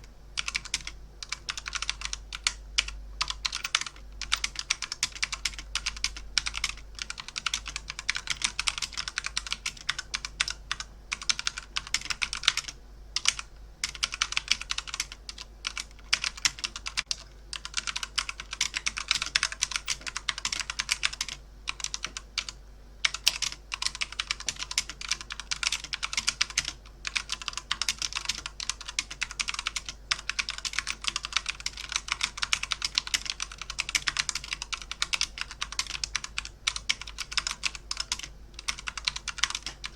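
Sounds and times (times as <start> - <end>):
fast keyboard typing: 0.4 - 39.9.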